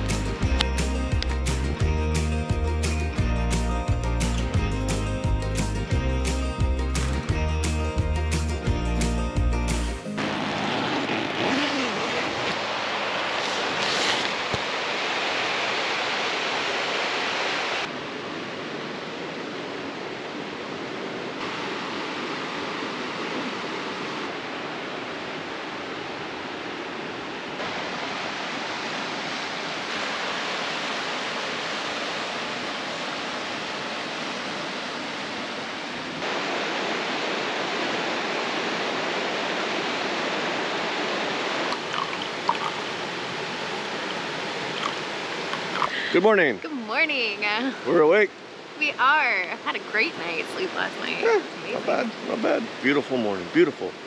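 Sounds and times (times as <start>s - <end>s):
river water rushing: 0.0s - 8.6s, 9.8s - 54.0s.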